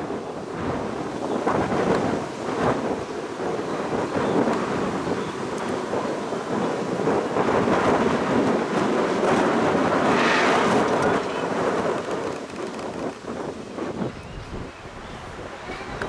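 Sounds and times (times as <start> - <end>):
wind gusting on microphone: 0.0 - 16.0.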